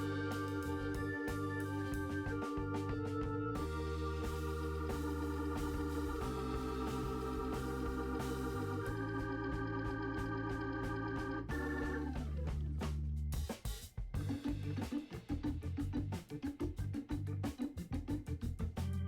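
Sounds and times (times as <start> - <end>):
sustained organ chords: 0.0 - 13.4, 14.1 - 19.0.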